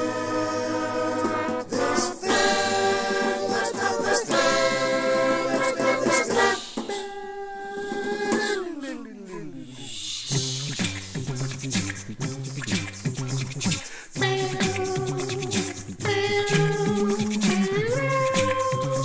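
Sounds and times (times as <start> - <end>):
voices singing long notes: 0.0 - 19.0.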